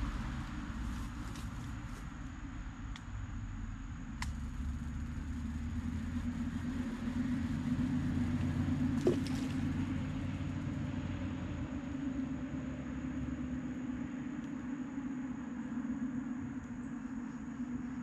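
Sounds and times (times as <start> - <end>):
distant engine rumble: 0.0 - 18.0.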